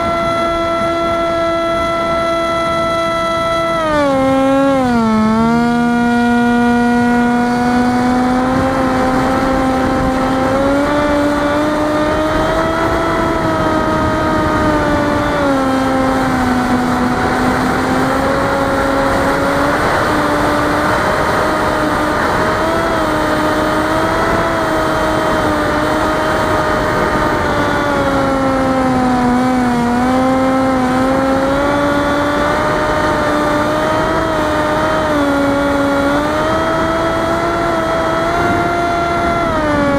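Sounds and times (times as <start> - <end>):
electric motor and propeller whine: 0.0 - 39.9
wind rush: 0.0 - 39.9.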